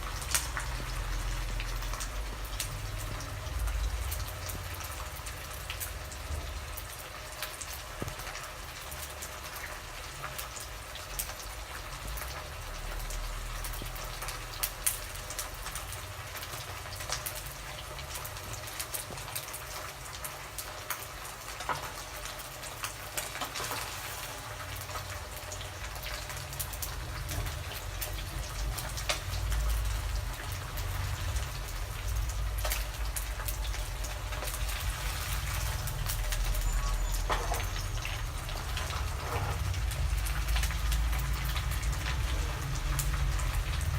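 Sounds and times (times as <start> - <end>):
fish frying in oil: 0.0 - 43.9
oil popping and crackling: 0.0 - 43.9.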